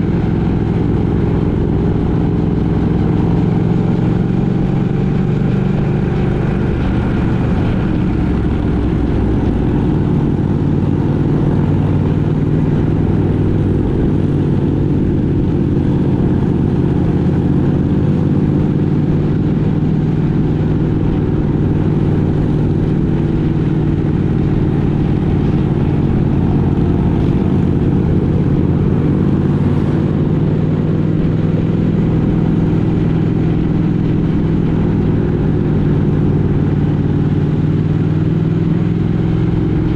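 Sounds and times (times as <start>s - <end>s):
vehicle engine running steadily: 0.0s - 39.9s.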